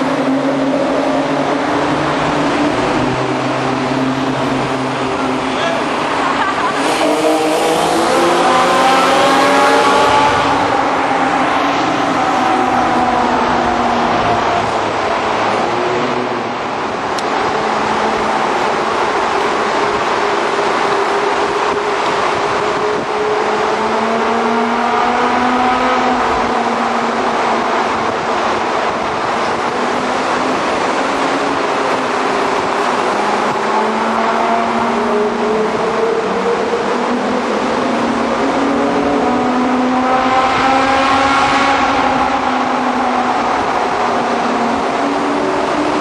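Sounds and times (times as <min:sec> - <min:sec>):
car engines accelerating: 0:00.0 - 0:46.0
tyre and road noise: 0:00.0 - 0:46.0.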